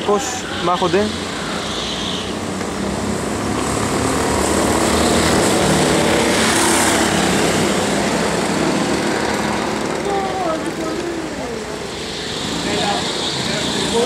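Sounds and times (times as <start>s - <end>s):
go-kart engines passing: 0.0s - 14.0s.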